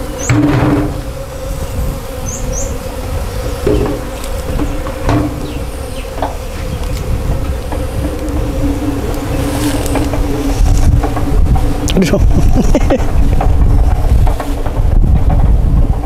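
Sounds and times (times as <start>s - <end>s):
bees buzzing: 0.0s - 16.0s.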